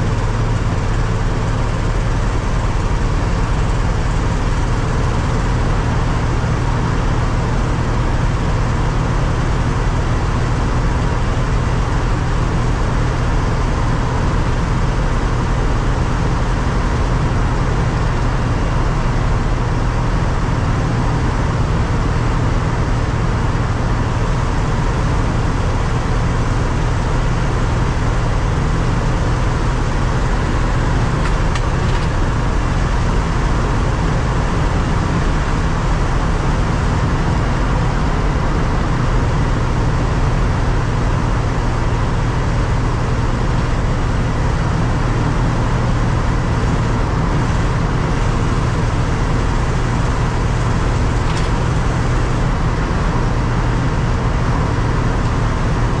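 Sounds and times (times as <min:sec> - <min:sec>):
road noise: 0:00.0 - 0:56.0
truck engine running: 0:00.0 - 0:56.0.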